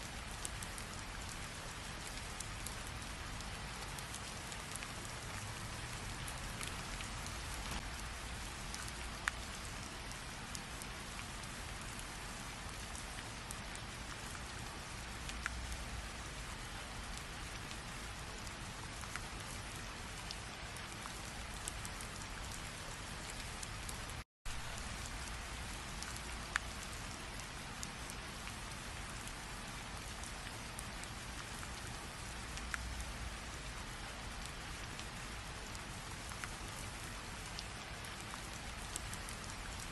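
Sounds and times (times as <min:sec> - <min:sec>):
steady rain hiss: 0:00.0 - 0:39.9
raindrop ticks: 0:00.1 - 0:39.9.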